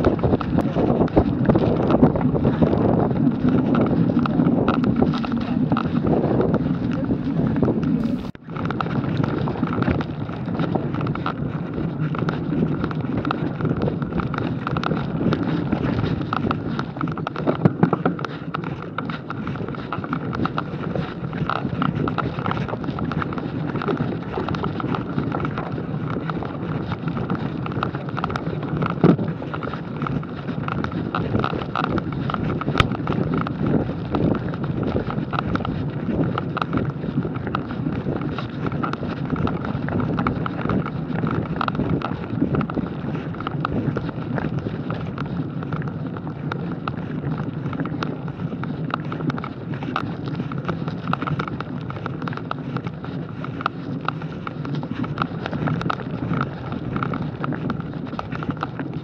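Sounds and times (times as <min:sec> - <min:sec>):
bike rattling: 0:00.0 - 0:59.0
tyre and wind noise: 0:00.0 - 0:59.0.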